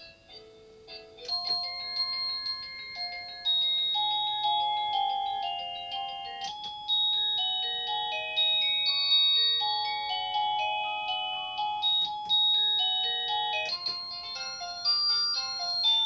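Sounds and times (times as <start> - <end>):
electronic doorbell chime melody: 0.0 - 16.0.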